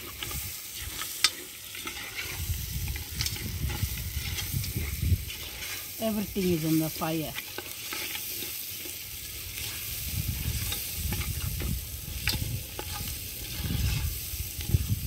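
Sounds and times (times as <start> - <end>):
metal spoon scraping food: 0.0 - 6.0, 7.4 - 14.9
food sizzling in a pot: 0.0 - 15.0.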